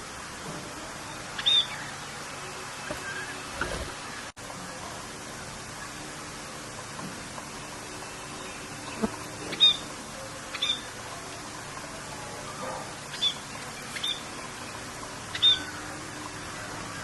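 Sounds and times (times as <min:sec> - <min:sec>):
rain hissing: 0:00.0 - 0:17.0
songbird chirping: 0:01.0 - 0:04.4, 0:05.3 - 0:17.0.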